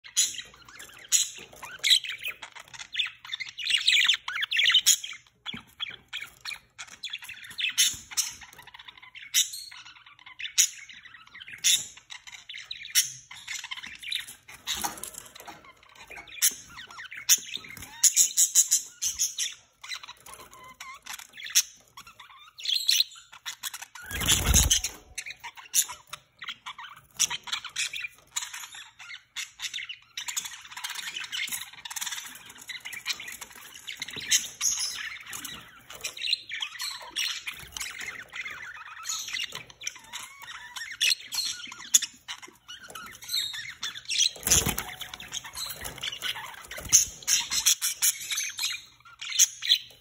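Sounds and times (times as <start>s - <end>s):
budgerigars chirping and warbling: 0.0s - 50.0s.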